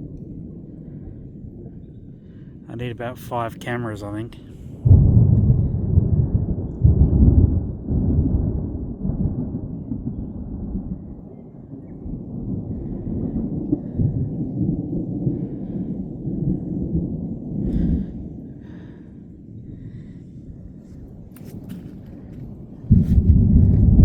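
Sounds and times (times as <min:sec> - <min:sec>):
thunder rumbling: 0:00.0 - 0:24.0.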